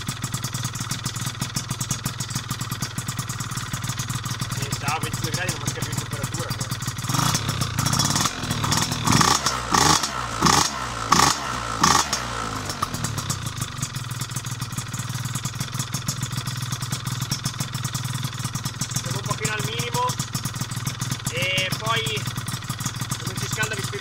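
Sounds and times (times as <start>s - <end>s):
scooter engine idling and revving: 0.0s - 24.0s.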